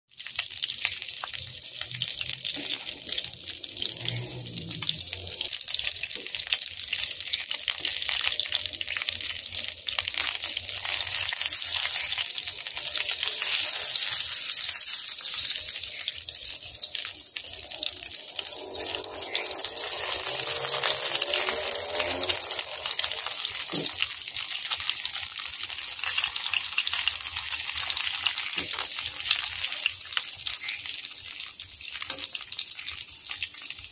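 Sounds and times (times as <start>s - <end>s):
chicken sizzling in butter: 0.1s - 33.9s.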